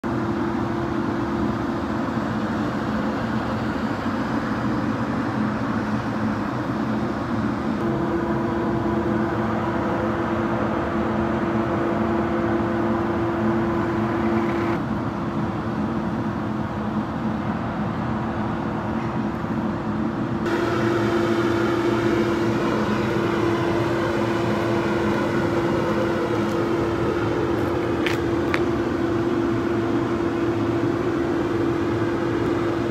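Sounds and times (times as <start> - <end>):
steady whining tone: 0.0 - 17.1, 20.3 - 32.9
diesel truck engine idling: 0.0 - 17.3, 19.2 - 32.9.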